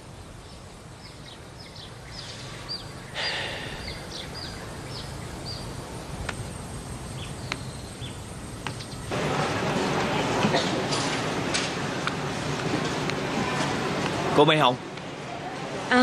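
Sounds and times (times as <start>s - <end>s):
steady outdoor hiss: 0.0s - 16.0s
birds chirping: 0.4s - 15.2s.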